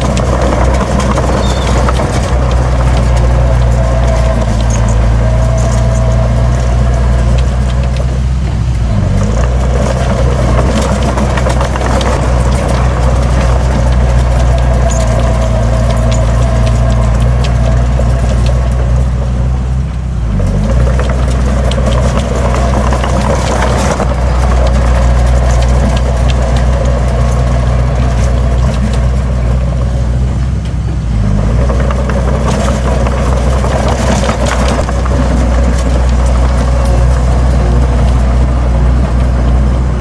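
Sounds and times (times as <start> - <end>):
heavy diesel engine drone: 0.0 - 40.0
knocks and rattles: 0.0 - 40.0.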